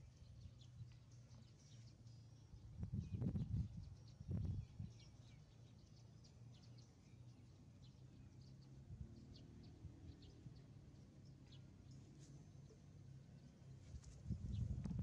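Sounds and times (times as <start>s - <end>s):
faint bird chirps: 0.0s - 14.9s
low steady hum: 0.0s - 15.0s.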